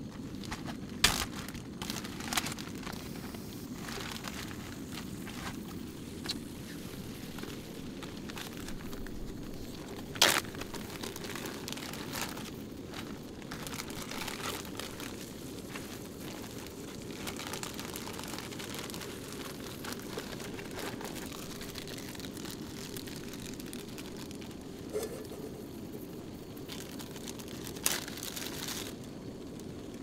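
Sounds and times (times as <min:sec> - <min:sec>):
plastic zip bag crinkling: 0:00.0 - 0:25.4, 0:26.7 - 0:29.0.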